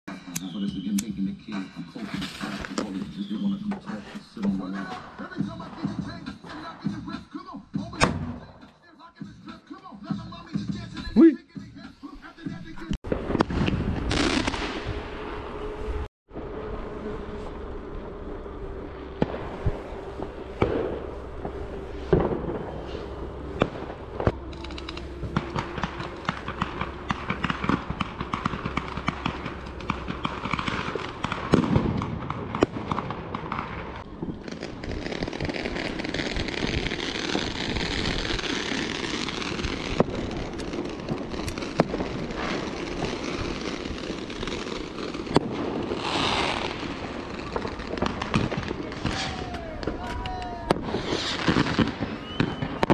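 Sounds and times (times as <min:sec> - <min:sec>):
fireworks bangs and crackles: 0:00.1 - 0:16.7, 0:17.4 - 0:52.9.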